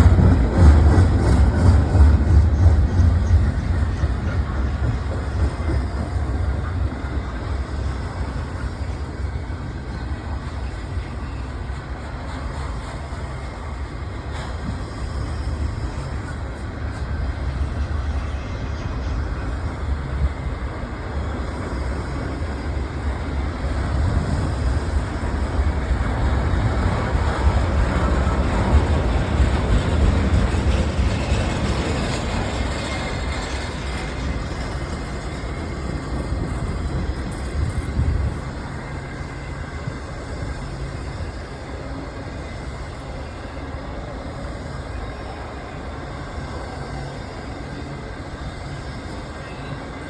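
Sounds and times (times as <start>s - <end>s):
freight train wheels rumbling on rail: 0.0s - 50.0s.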